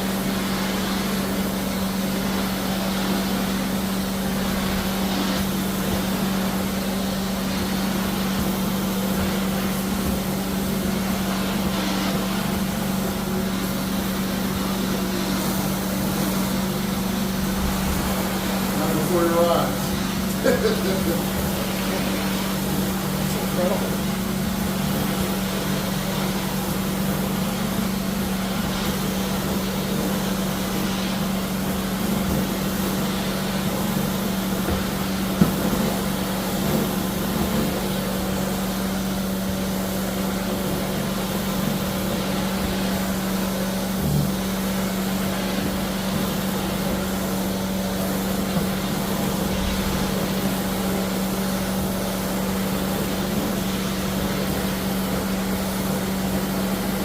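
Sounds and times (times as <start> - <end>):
floor cleaning machine droning: 0.0 - 57.0.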